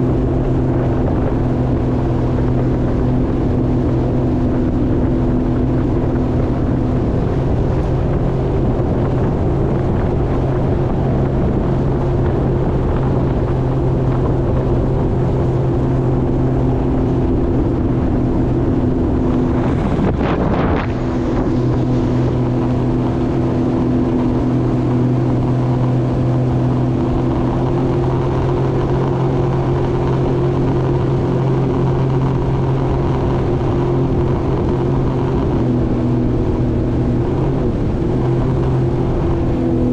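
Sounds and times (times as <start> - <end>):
jet ski engine running: 0.0 - 39.9
rushing disturbance: 0.0 - 39.9.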